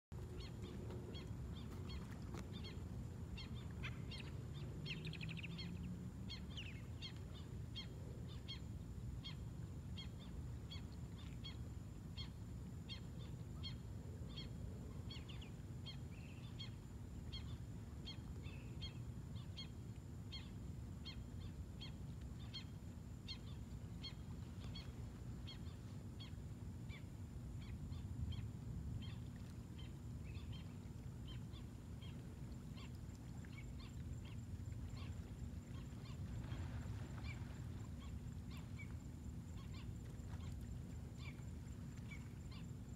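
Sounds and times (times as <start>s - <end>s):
low steady rumble: 0.1s - 42.9s.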